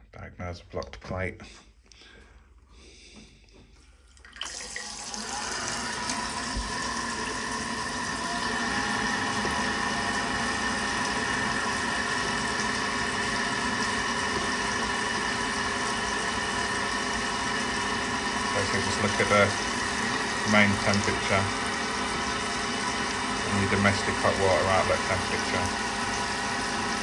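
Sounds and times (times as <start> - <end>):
boiler water rushing and humming: 4.3 - 27.0.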